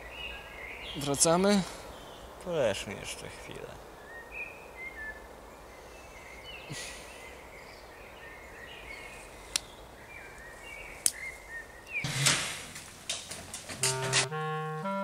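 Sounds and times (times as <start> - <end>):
steady background hiss: 0.0 - 14.8.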